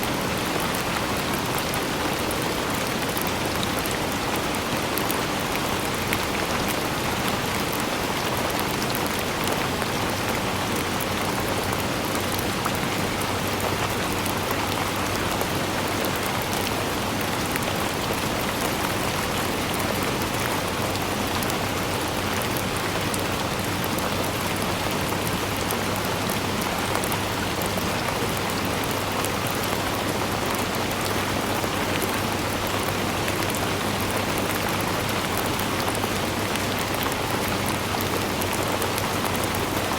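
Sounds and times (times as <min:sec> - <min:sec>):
raindrops ticking on surfaces: 0:00.0 - 0:39.9.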